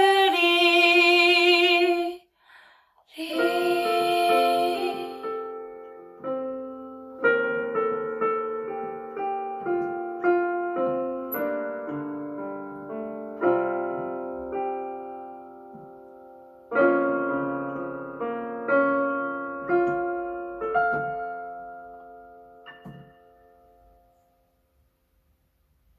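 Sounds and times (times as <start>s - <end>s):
solo piano chords: 3.2s - 24.9s.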